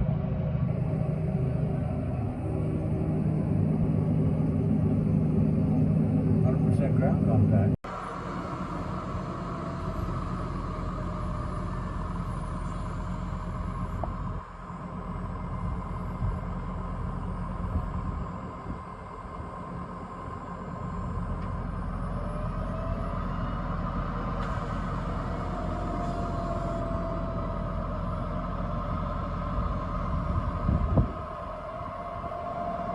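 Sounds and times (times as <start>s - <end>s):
steady whine: 0.0s - 32.9s
tractor diesel engine under load: 0.0s - 32.9s.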